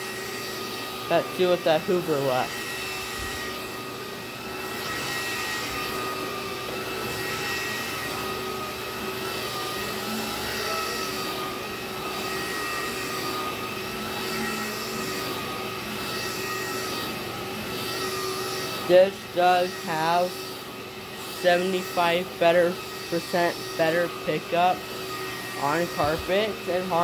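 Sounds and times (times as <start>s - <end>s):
vacuum motor whine: 0.0s - 27.0s.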